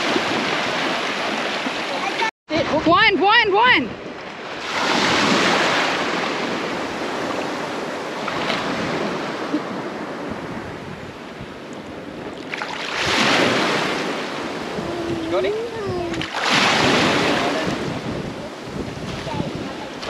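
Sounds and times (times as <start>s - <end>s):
small waves washing on beach: 0.0s - 20.0s.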